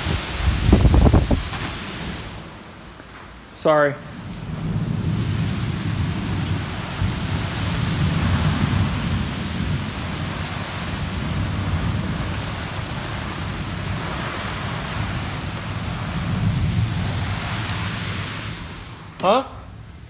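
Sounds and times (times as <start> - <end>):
low thunder rumble: 0.0 - 2.6, 4.0 - 20.0
heavy rain on wooden deck: 0.0 - 20.0.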